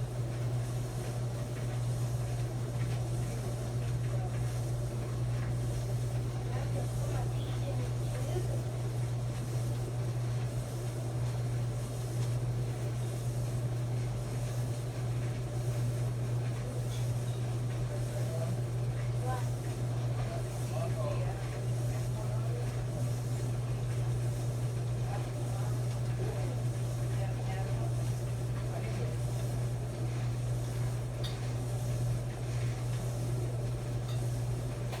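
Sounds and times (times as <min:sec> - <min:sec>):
clothes dryer humming: 0:00.0 - 0:35.0.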